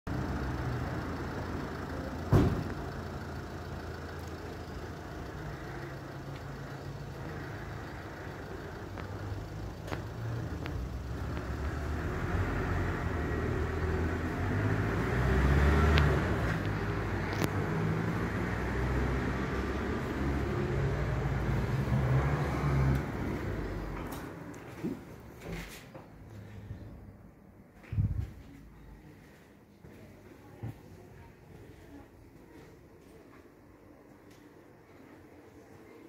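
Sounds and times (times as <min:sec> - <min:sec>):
low rumble of traffic: 0:00.1 - 0:36.0.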